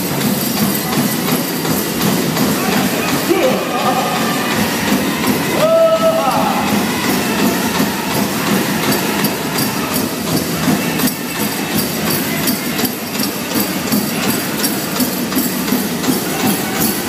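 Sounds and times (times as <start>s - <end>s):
big drum steady beat: 0.0s - 17.0s
jingling bells: 0.0s - 17.0s.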